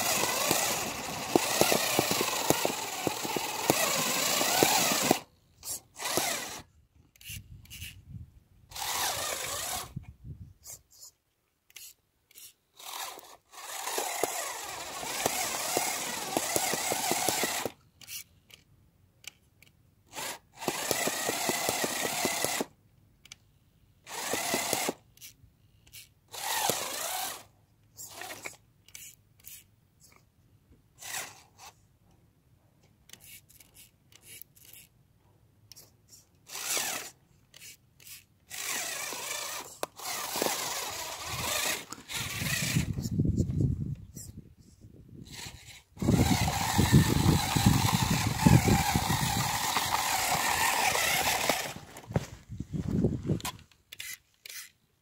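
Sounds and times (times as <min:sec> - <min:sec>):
rc car motor whirring: 0:00.0 - 0:08.0, 0:08.7 - 0:10.0, 0:11.7 - 0:18.6, 0:20.1 - 0:23.4, 0:24.0 - 0:30.2, 0:31.0 - 0:31.8, 0:33.1 - 0:35.0, 0:35.7 - 0:43.3, 0:45.2 - 0:52.3, 0:53.4 - 0:54.8.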